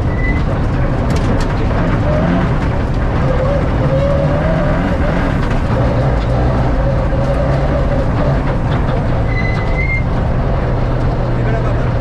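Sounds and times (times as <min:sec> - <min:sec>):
rally car engine running: 0:00.0 - 0:12.0.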